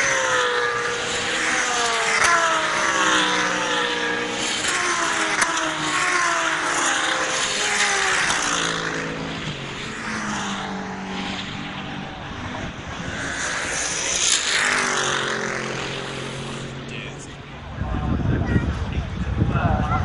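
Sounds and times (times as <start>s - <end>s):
racing cars passing: 0.0s - 20.0s.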